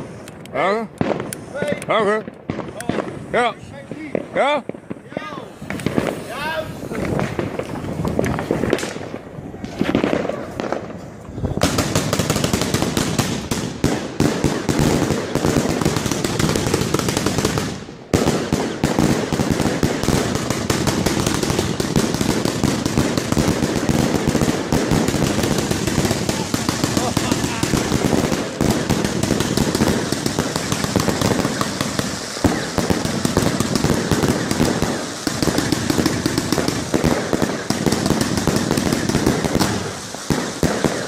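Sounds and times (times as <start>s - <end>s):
firework cake bangs and crackles: 0.0s - 41.0s.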